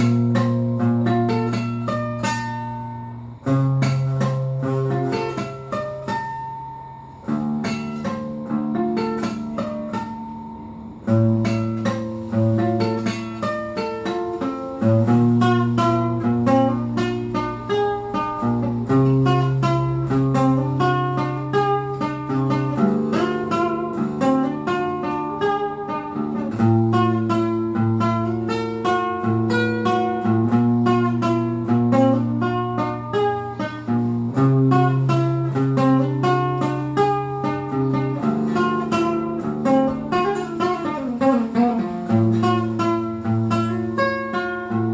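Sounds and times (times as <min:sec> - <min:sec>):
acoustic guitar picked melody: 0:00.0 - 0:44.9.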